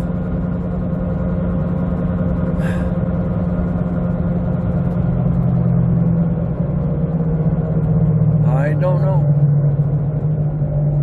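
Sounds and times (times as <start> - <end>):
car driving with low hum: 0.0 - 11.0
grinding rumble from wheels: 0.0 - 11.0.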